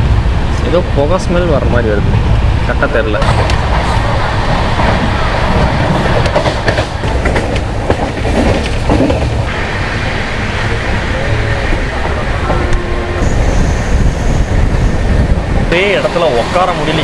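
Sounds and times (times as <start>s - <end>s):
train coach rumble: 0.0s - 17.0s
wheel clatter over rails: 0.5s - 17.0s.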